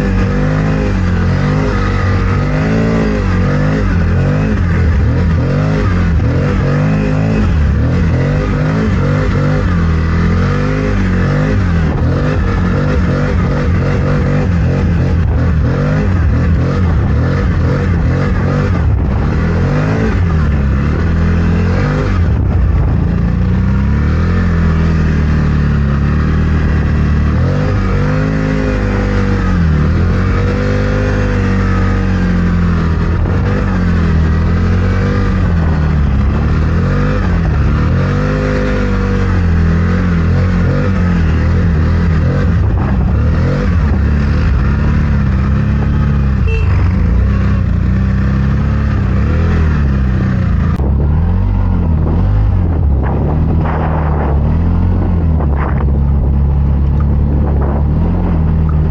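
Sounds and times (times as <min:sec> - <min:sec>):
vehicle engine revving: 0:00.0 - 0:58.9.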